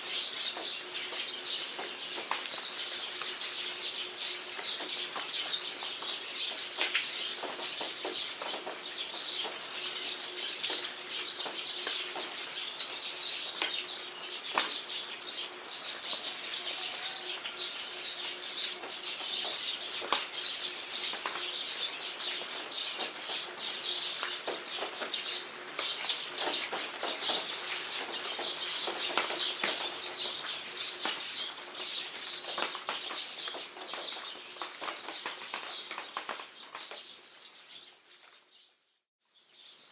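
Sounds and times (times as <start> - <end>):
rain pattering: 0.0 - 38.4
small birds chirping: 0.0 - 39.9.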